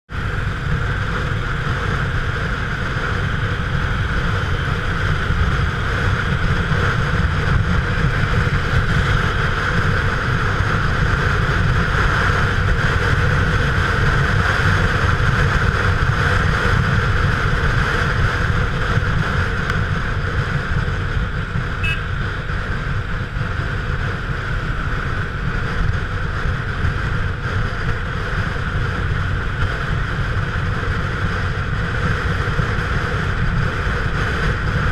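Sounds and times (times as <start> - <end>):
motorcycle engine and road noise: 0.0 - 34.9.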